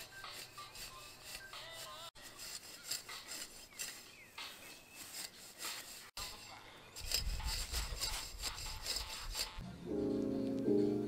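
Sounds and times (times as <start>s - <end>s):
rake scraping through grass: 0.0s - 9.6s.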